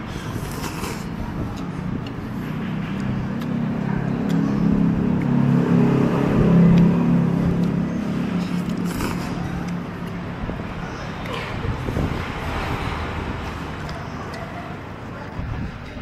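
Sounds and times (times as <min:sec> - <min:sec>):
vehicle engine passing by: 0:00.1 - 0:14.8.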